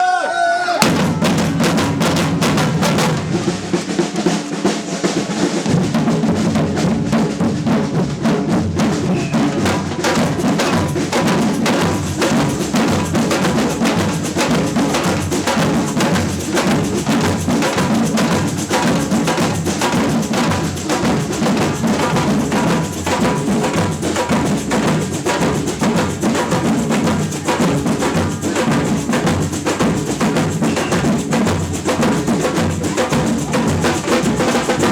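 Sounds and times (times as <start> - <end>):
samba percussion band drumming: 0.8 - 34.9.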